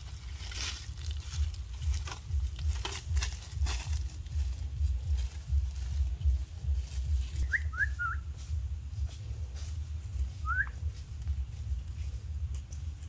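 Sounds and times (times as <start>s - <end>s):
barefoot footsteps on dry leaves: 0.0s - 13.0s
low rumble: 0.0s - 13.0s.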